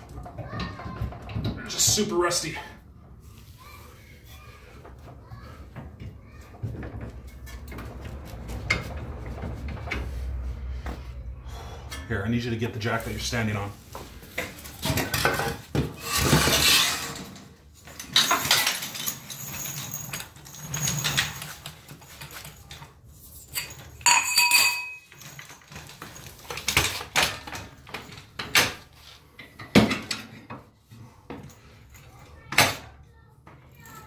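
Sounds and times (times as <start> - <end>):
metal tools clanking and scraping: 3.8 - 33.0.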